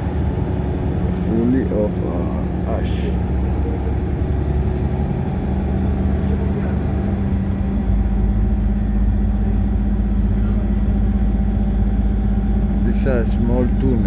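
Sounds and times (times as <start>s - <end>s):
bus engine drone: 0.0s - 14.0s.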